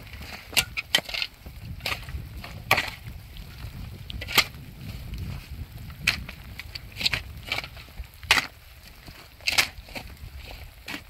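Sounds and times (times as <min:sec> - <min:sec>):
shovel scraping stony soil: 0:00.0 - 0:11.0.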